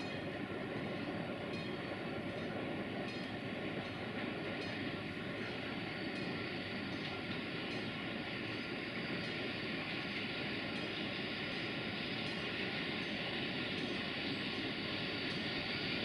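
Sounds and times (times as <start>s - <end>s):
locomotive hum: 0.0s - 16.0s
wheels rumbling on rail: 0.0s - 16.0s.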